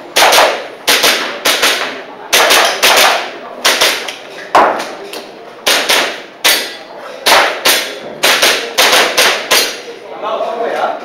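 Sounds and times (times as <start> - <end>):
airsoft pistol shots: 0.1 - 4.9, 5.6 - 9.8.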